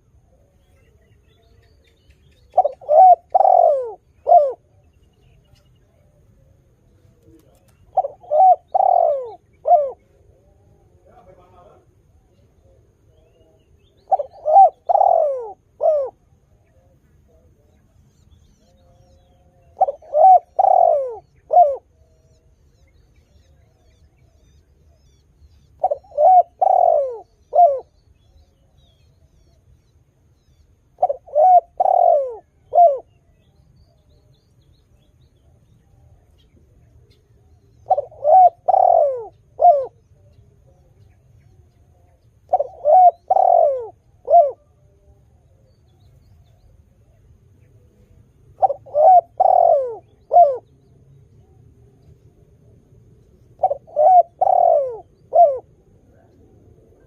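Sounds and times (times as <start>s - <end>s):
dove cooing: 0.0s - 17.8s, 18.6s - 29.6s, 30.8s - 34.2s, 35.4s - 57.0s.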